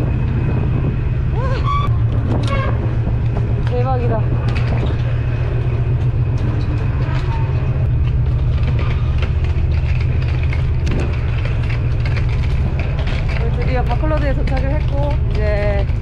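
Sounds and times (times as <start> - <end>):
suitcase wheels on pavement: 0.0 - 16.0.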